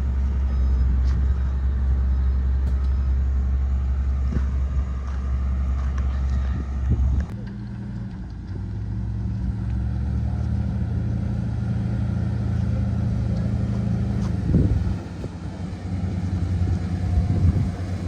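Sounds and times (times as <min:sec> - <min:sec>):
road roller diesel engine: 0:00.0 - 0:18.0.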